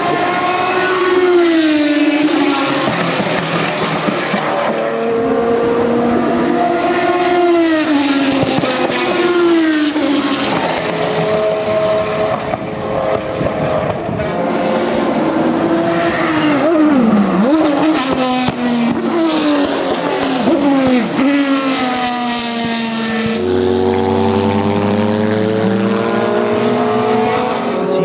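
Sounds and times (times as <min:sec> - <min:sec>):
racing car engine at speed: 0:00.0 - 0:28.0.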